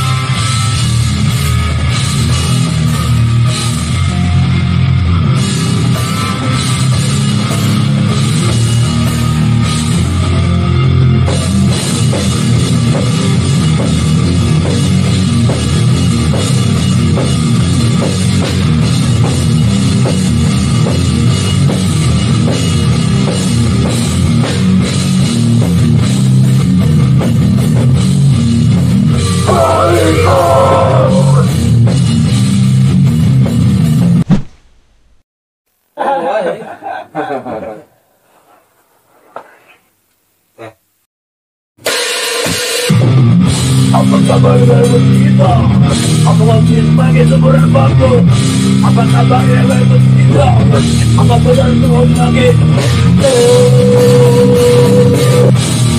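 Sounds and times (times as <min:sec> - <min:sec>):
hardcore band playing: 0:00.0 - 0:34.2, 0:41.8 - 0:55.9.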